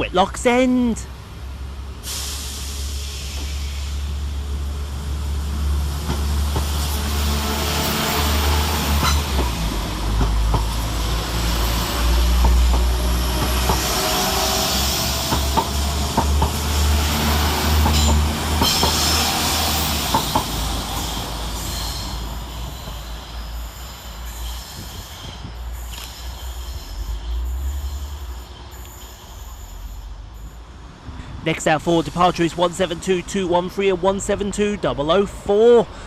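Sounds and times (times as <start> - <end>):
diesel train engines running: 0.0 - 36.0.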